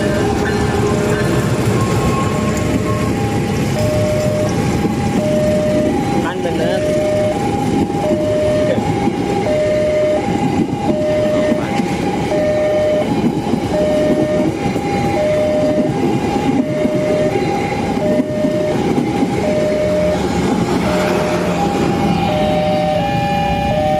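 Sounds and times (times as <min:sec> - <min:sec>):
train rumble and wheel clatter: 0:00.0 - 0:23.9
two-tone crossing siren: 0:00.0 - 0:23.9.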